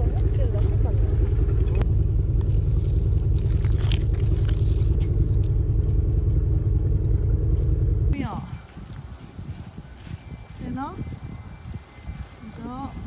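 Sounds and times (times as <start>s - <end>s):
low fluttering rumble: 0.0s - 13.0s.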